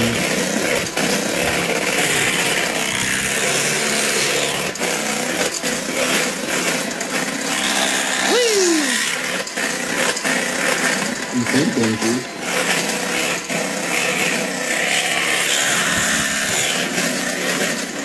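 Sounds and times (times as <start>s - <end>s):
electric mixer whirring: 0.0s - 18.0s.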